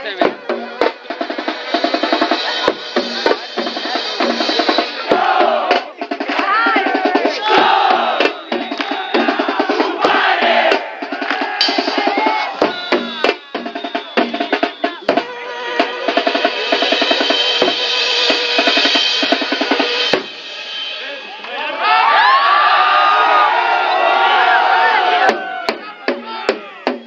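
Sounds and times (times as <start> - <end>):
drum troupe playing: 0.0 - 27.0.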